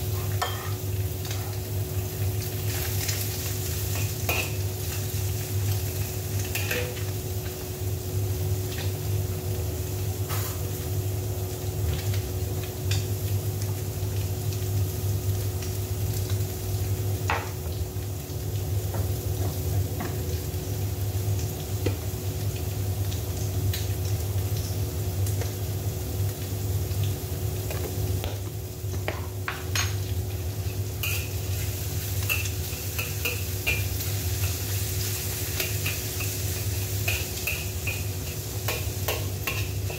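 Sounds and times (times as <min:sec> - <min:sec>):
food frying in oil: 0:00.0 - 0:39.9.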